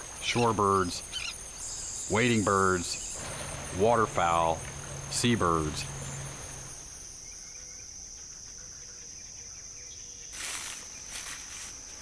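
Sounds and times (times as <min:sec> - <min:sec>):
insect high-pitched trill: 0:00.2 - 0:12.0.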